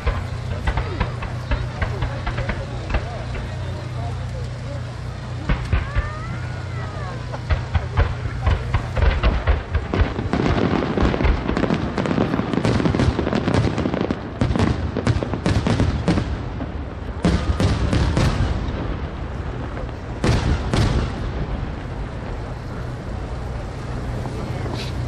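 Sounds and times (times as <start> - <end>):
firework bangs and crackling: 0.0 - 25.0.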